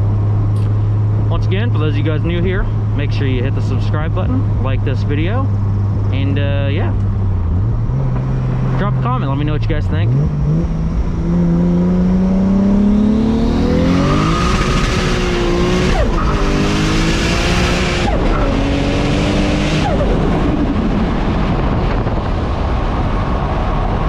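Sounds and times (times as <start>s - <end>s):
car engine at full throttle: 0.0s - 24.0s.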